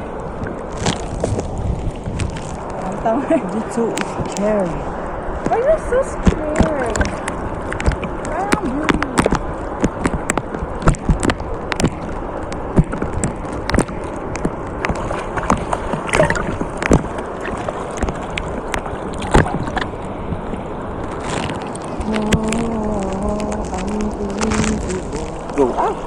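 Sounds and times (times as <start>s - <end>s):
seawater sloshing and splashing: 0.0s - 26.0s.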